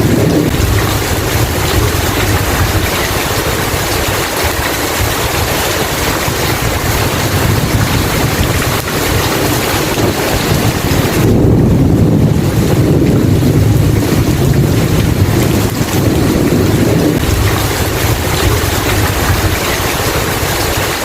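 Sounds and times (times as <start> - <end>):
rain hissing: 0.0 - 21.0
thunder rumbling: 0.0 - 21.0.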